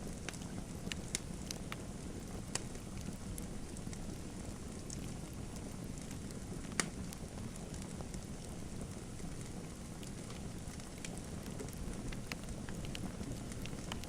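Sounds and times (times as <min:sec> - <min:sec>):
fire crackles and pops: 0:00.0 - 0:14.0
wood fire burning: 0:00.0 - 0:14.0.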